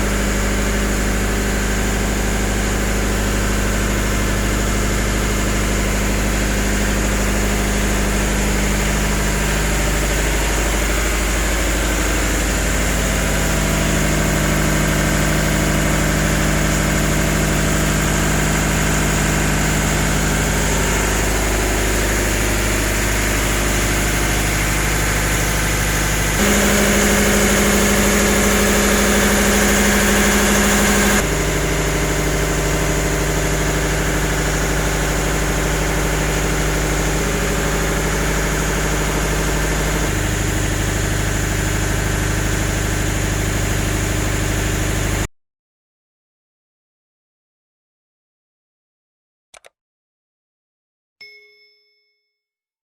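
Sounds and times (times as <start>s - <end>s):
boat engines droning: 0.0s - 45.3s.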